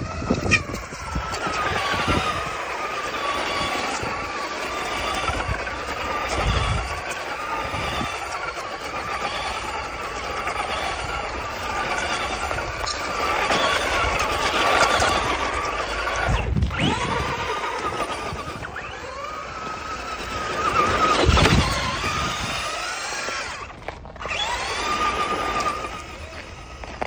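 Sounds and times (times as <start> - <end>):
electric motor whining: 0.0 - 27.0
low rumbles: 0.0 - 27.0.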